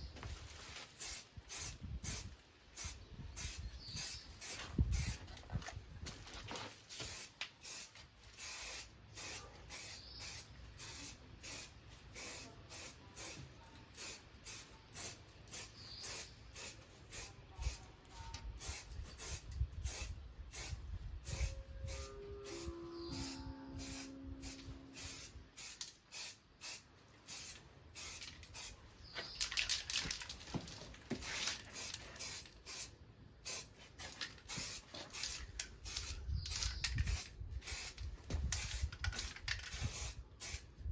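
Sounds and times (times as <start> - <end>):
spray paint hissing bursts: 1.0 - 5.3, 6.9 - 29.5, 31.2 - 40.9.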